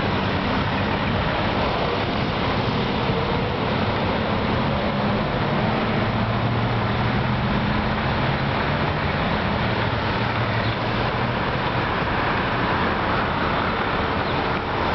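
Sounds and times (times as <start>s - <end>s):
low engine hum: 0.0s - 14.9s
street traffic: 0.0s - 14.9s.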